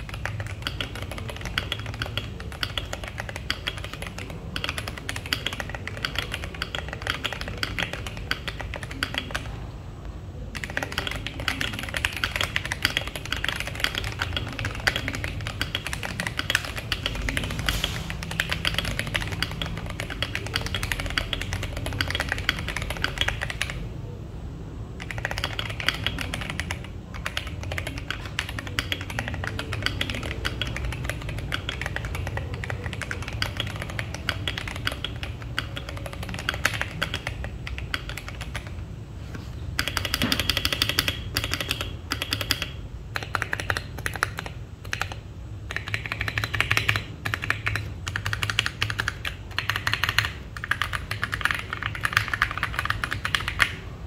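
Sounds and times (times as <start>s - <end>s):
mechanical keyboard typing: 0.0s - 9.7s, 10.4s - 23.9s, 24.9s - 38.9s, 39.6s - 54.0s.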